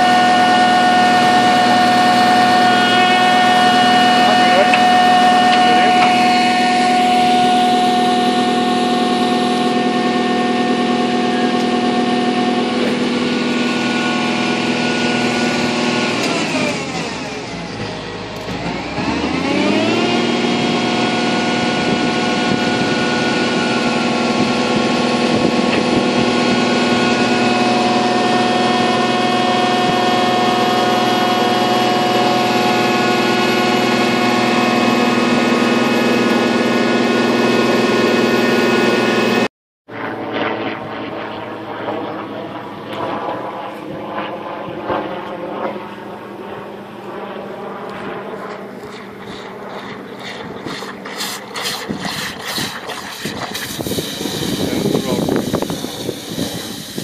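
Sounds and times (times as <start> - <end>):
drilling rig engine running: 0.0 - 39.5, 45.2 - 57.0.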